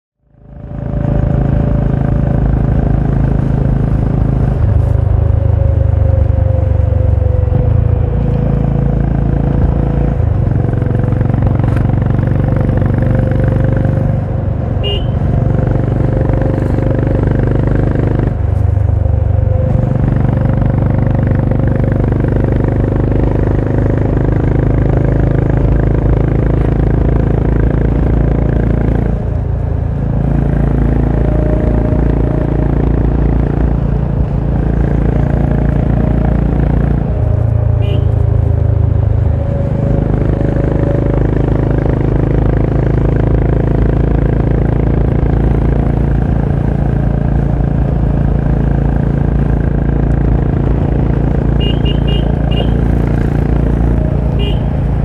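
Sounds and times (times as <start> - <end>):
motorcycle engine and exhaust: 0.2 - 55.0.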